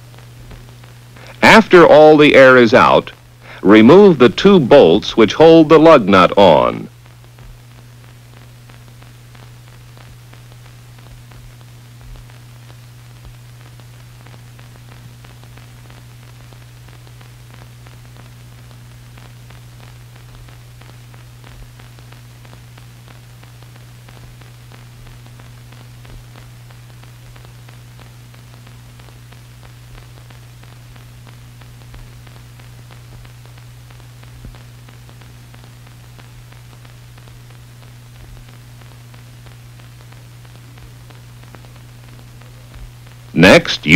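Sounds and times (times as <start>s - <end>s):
faint crackles: 0.0s - 4.9s, 6.3s - 43.9s
film soundtrack hiss and hum: 0.0s - 43.9s.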